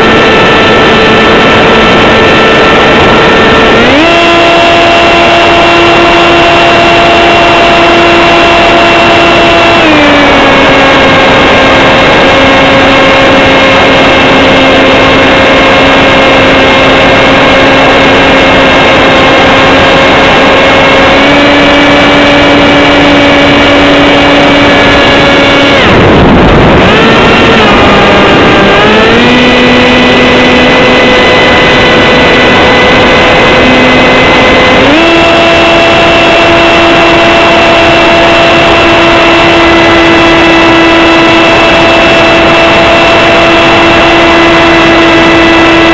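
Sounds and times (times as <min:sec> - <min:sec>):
wind rush: 0:00.0 - 0:07.0, 0:08.6 - 0:45.9
electric motor and propeller whining: 0:00.0 - 0:45.9.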